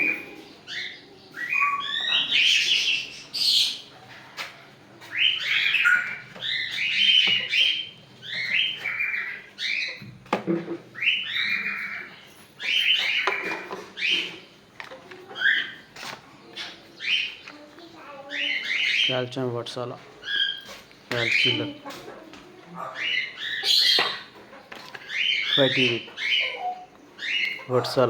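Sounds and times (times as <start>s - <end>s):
parrots chirping and squawking: 0.0s - 28.0s.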